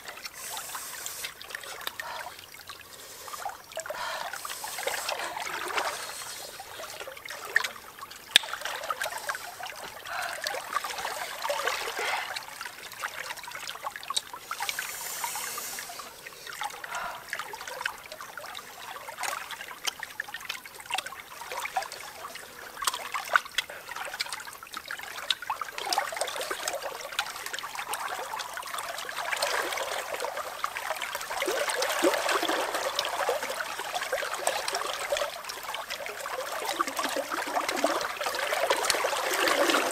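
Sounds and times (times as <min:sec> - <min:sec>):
shallow stream trickling: 0:00.0 - 0:39.9.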